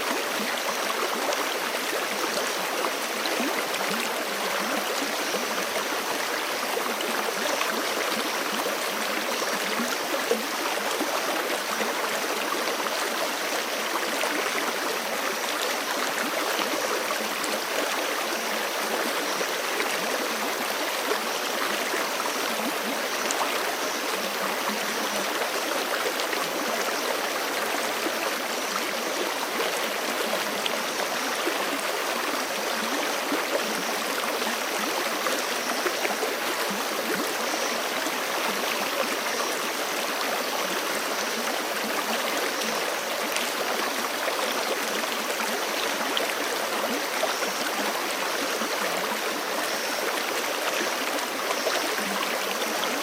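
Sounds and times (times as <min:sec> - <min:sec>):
creek running over rocks: 0:00.0 - 0:53.0.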